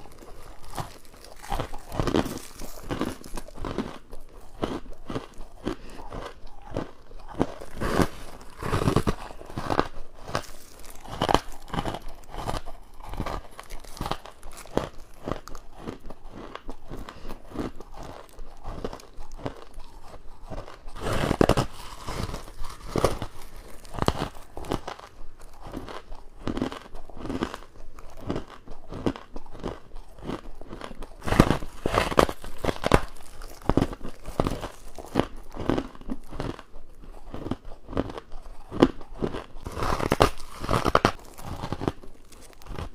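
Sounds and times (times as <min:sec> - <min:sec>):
person crunching ice: 0:00.0 - 0:42.9.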